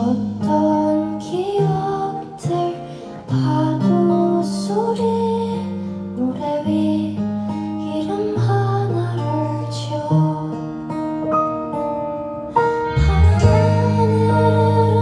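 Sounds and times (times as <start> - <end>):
strummed acoustic guitar ballad: 0.0 - 15.0.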